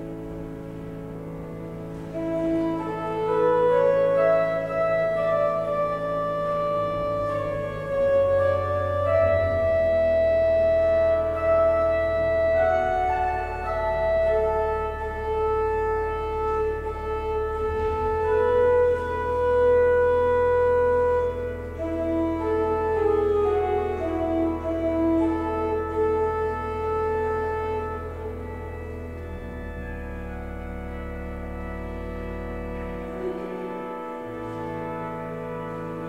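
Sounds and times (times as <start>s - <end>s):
pipe organ playing chords: 0.0s - 36.0s.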